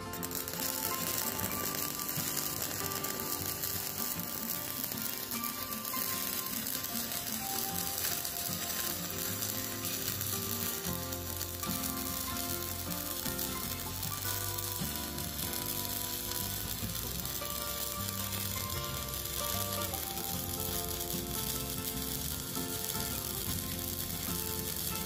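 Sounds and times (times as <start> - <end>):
welding arc crackling: 0.0 - 25.0.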